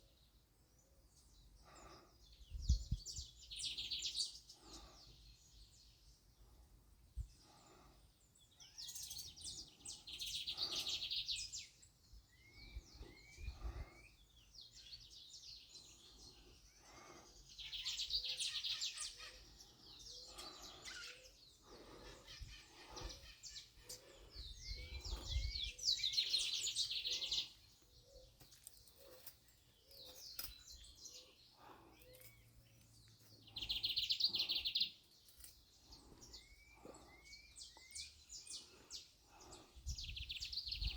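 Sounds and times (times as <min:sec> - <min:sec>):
birds twittering song: 0:00.0 - 0:40.9.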